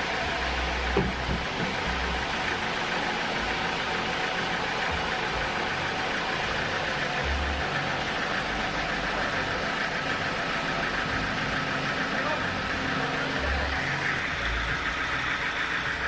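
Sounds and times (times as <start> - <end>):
sawmill machinery drone: 0.0 - 16.0.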